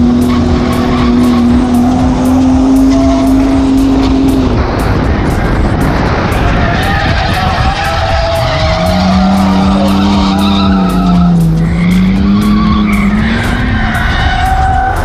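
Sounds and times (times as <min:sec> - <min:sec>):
car engine revving high: 0:00.0 - 0:15.0
tyres skidding: 0:00.0 - 0:15.0.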